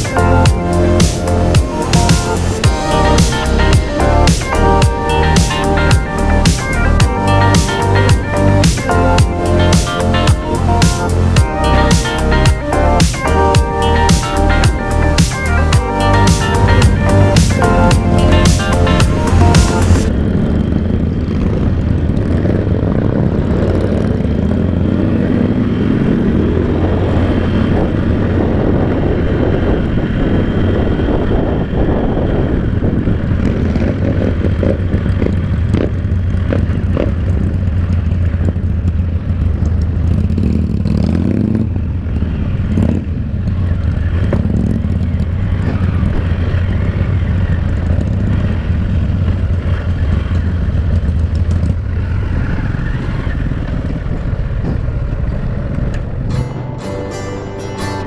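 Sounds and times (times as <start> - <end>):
wind and road rush: 0.0 - 56.5
motorcycle engine cruising: 0.0 - 58.0.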